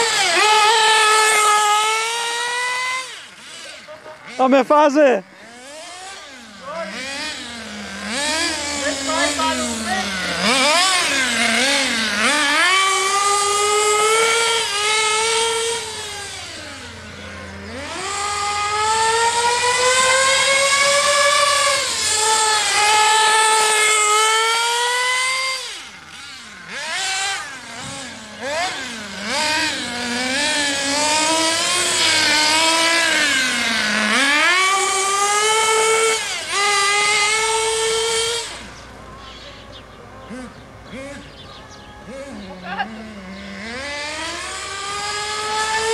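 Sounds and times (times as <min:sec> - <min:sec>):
nitro engine screaming: 0:00.0 - 0:45.9.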